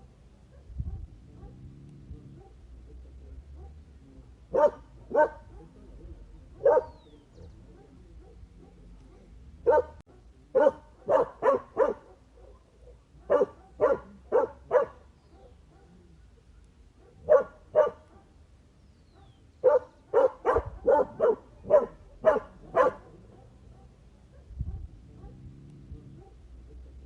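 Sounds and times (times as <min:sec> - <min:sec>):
dog barking: 0:00.4 - 0:03.9, 0:04.5 - 0:18.4, 0:19.1 - 0:26.8.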